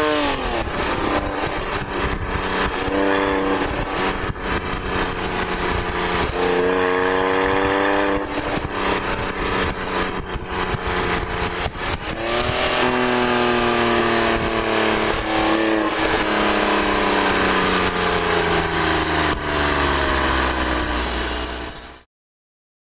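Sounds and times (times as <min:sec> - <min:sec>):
car engine while driving: 0:00.0 - 0:22.0
wind and road noise: 0:00.0 - 0:22.0.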